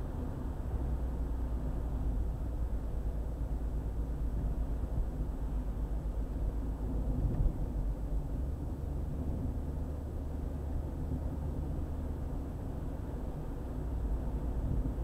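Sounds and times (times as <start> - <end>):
tyres and engine rumble: 0.0 - 15.0.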